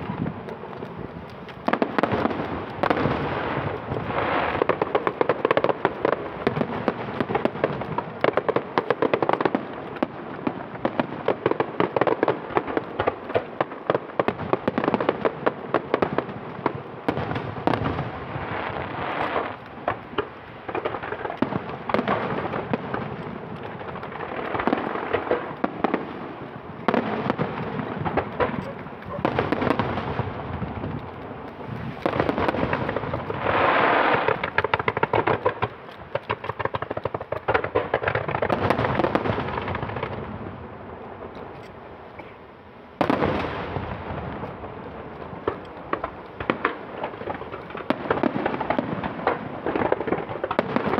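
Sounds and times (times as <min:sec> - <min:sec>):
fireworks crackling: 0:00.0 - 0:50.9.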